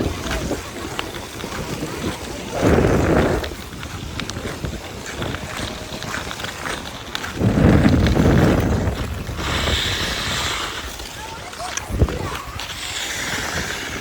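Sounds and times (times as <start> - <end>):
ice skates scraping on ice: 0.0 - 14.0
wind buffeting microphone: 0.0 - 14.0.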